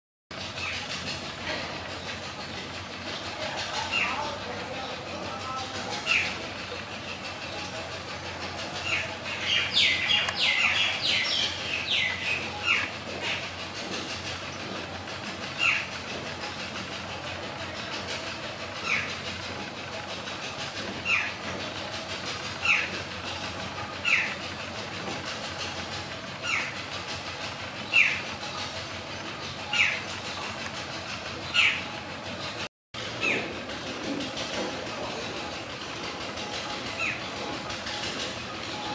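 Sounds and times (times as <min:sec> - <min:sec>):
steady background noise: 0:00.3 - 0:38.9.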